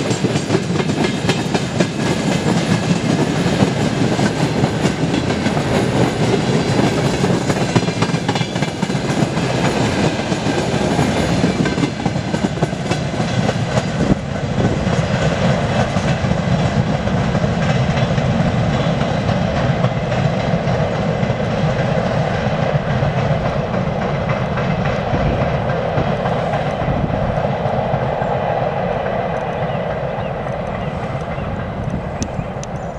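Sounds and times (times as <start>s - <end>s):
freight train rolling past: 0.0s - 32.9s.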